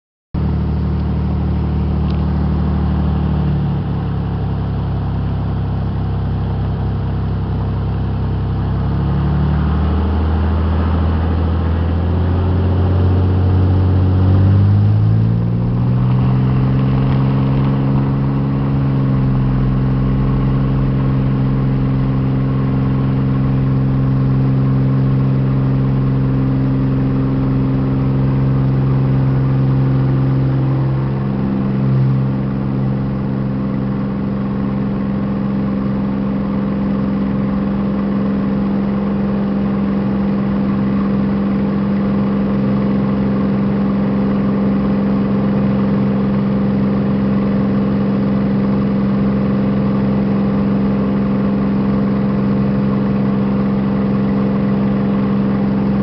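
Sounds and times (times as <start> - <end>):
light aircraft engine and propeller: 0.4 - 56.0.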